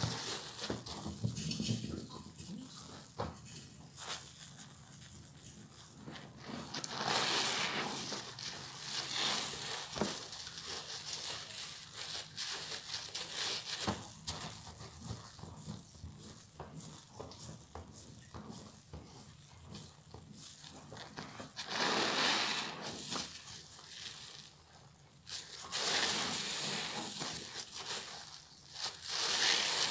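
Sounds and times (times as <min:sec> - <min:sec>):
soapy sponges squished by hand: 0:00.0 - 0:29.9.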